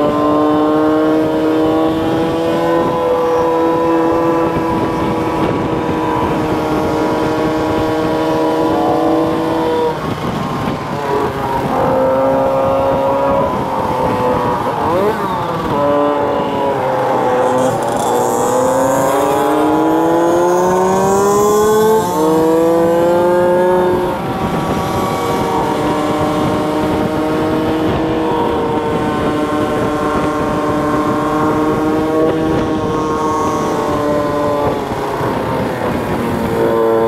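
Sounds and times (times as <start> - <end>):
two-stroke scooter engine: 0.0 - 37.0
wind rush: 0.0 - 37.0.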